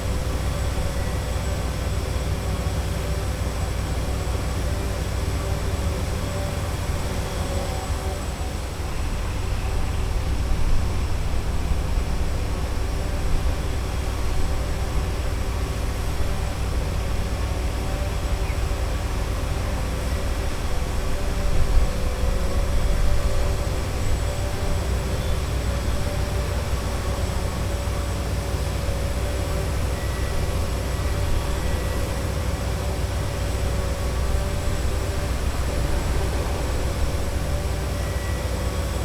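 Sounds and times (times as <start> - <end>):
low rumble of road traffic: 0.0 - 39.0
machinery hum: 0.0 - 39.0.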